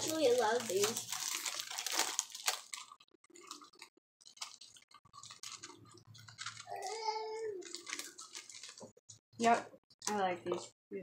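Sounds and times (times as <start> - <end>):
crunchy chewing of wafer rolls: 0.0 - 9.2.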